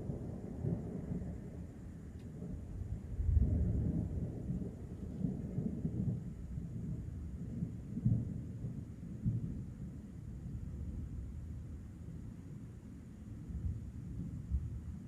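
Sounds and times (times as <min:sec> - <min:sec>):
low rolling thunder: 0:00.0 - 0:12.6, 0:13.3 - 0:15.0.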